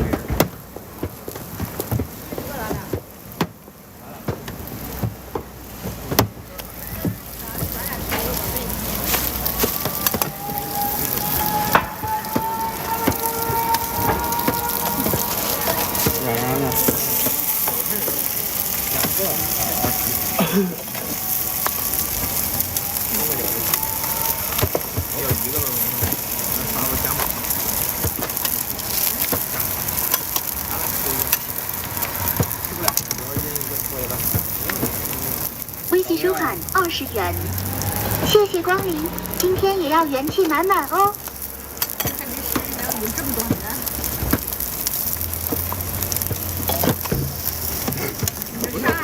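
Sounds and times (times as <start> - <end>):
food sizzling on a griddle: 0.0 - 49.0.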